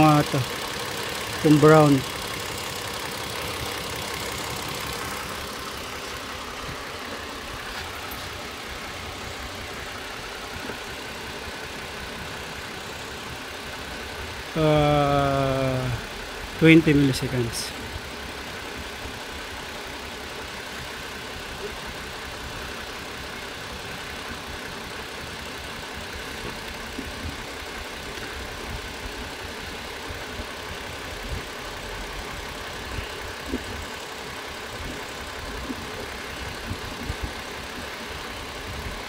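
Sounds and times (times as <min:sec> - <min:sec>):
car engine idling with misfire: 0:00.0 - 0:39.0.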